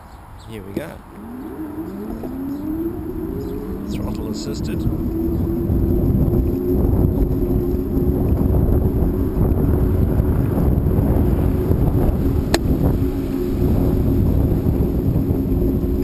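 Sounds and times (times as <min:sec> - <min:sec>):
wind rumble on microphone: 0:00.0 - 0:16.0
electric bike motor humming: 0:01.1 - 0:16.0.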